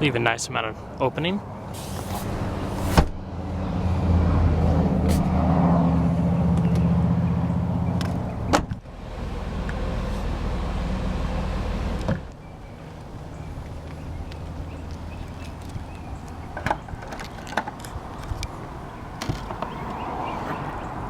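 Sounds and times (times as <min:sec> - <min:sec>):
vehicle engine humming: 0:01.4 - 0:21.0.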